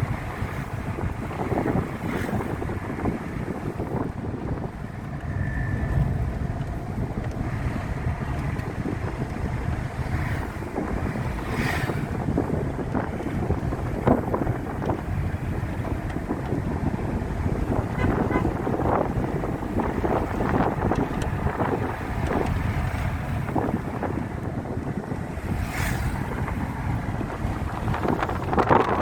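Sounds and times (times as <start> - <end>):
vehicle low rumble: 0.0 - 29.0
wind buffeting microphone: 0.0 - 29.0.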